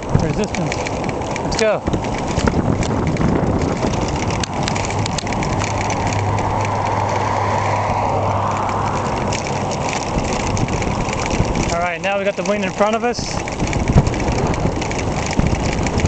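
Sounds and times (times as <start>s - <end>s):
scattered clicks: 0.0s - 16.0s
wind rushing over microphone: 0.0s - 16.0s.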